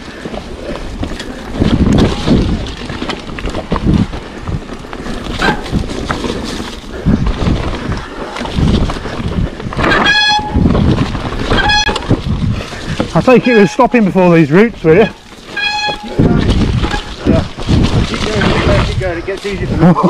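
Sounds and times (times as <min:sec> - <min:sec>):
bike knocking and rattling: 0:00.0 - 0:20.0
wind rush and tyre noise: 0:00.0 - 0:20.0.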